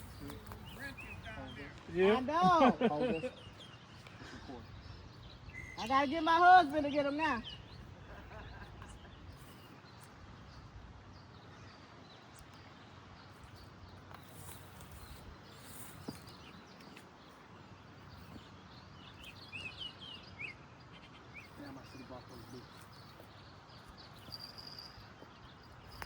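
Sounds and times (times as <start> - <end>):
bird chirps: 0.0 - 2.0, 2.9 - 10.6, 11.2 - 26.0
steady low hiss: 0.0 - 26.0.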